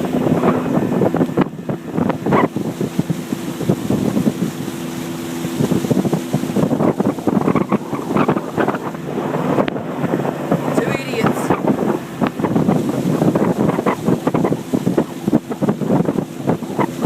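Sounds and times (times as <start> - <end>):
motorboat engine hum: 0.0 - 17.0
wind buffeting microphone: 0.0 - 17.0.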